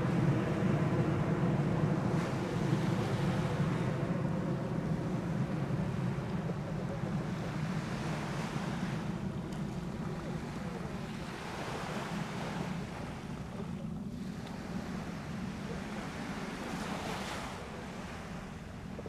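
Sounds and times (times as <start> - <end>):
distant jet climbing: 0.0 - 15.8.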